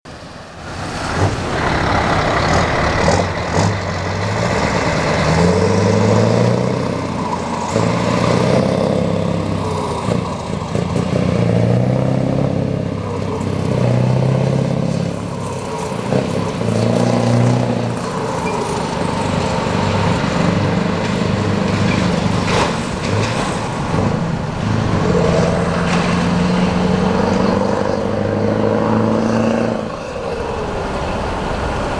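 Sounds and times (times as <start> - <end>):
diesel truck engine accelerating: 0.1 - 31.9.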